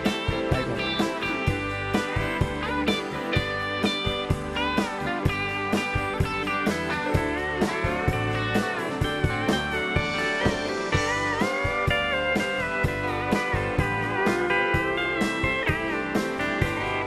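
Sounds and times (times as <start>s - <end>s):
bass: 0.0s - 17.0s
steady drum beat: 0.0s - 17.0s
steel guitar lead: 0.0s - 17.0s.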